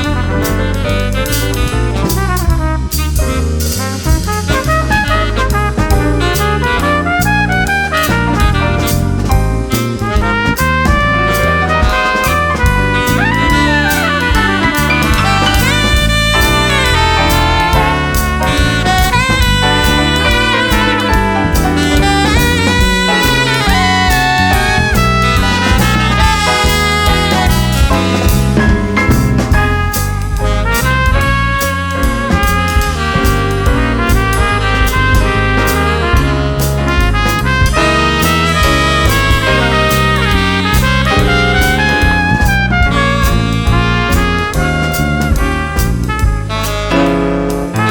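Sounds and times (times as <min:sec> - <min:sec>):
brass lead lines sliding: 0:00.0 - 0:47.9
jazz band playing: 0:00.0 - 0:47.9.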